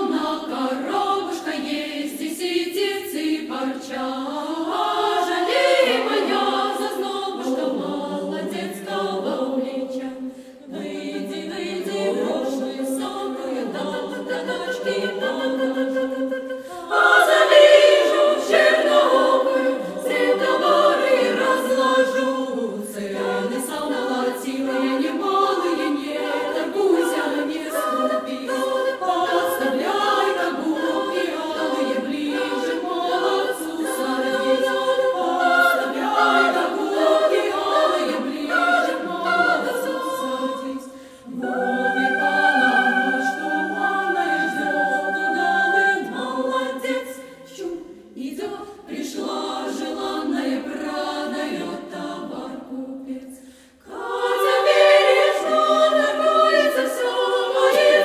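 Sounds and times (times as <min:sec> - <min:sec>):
women's choir singing a cappella: 0:00.0 - 0:58.0.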